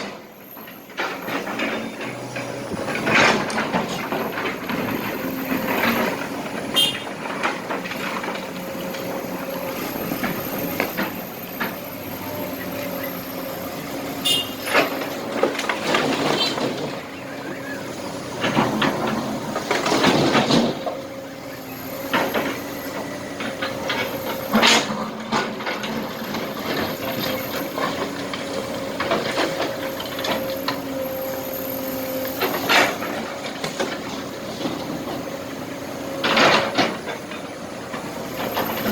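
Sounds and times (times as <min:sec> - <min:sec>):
excavator engine humming: 0:00.0 - 0:38.9.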